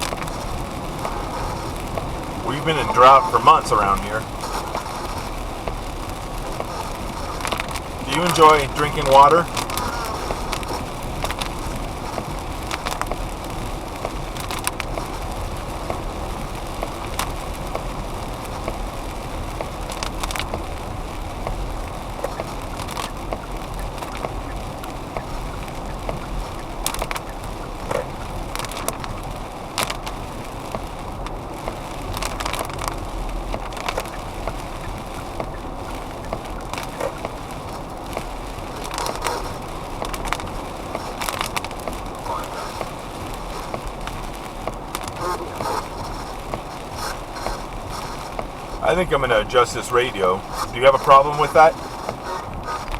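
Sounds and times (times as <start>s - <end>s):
clicks and crackles: 0.0s - 52.9s
radio static rushing: 0.0s - 52.9s.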